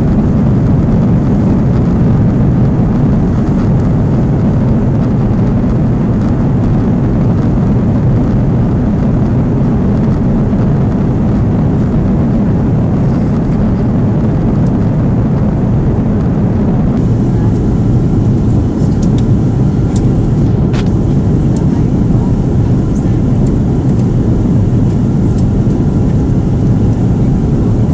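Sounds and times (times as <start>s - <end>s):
jet engines roaring in cabin: 0.0s - 27.9s.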